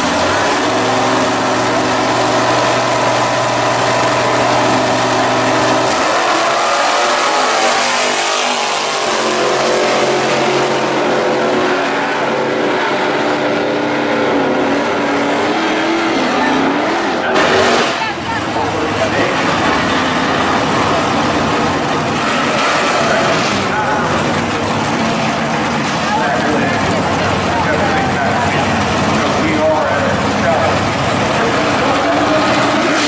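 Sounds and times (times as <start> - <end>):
drag racing car engines: 0.0 - 33.0.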